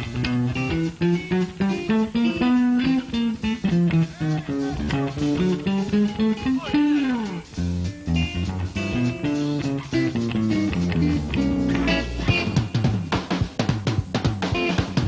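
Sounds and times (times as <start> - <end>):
electric guitar solo: 0.0 - 13.0
swing band playing: 0.0 - 15.0.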